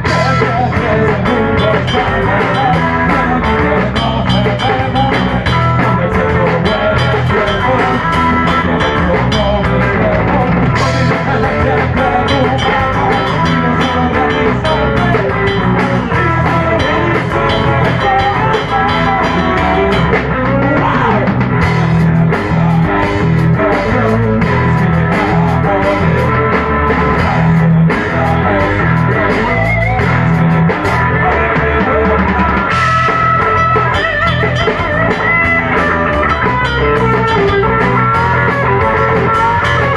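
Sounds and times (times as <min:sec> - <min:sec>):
drum kit with cymbals: 0:00.0 - 0:39.9
electric guitars: 0:00.0 - 0:39.9
rock band playing live: 0:00.0 - 0:39.9.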